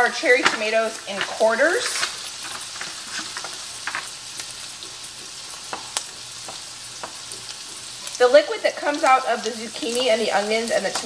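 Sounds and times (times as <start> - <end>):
sausages sizzling in a pan: 0.0 - 11.0.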